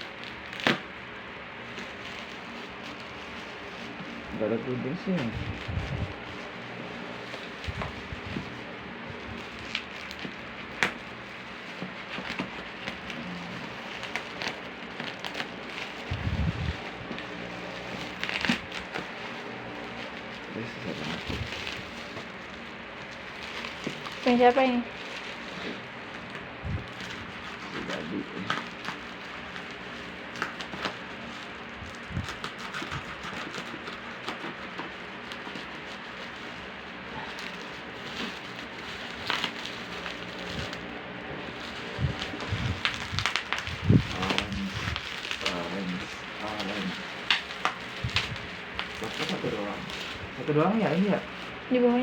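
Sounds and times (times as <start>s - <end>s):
plastic packaging crinkling: 0.0s - 52.0s
plastic ripping: 0.0s - 52.0s.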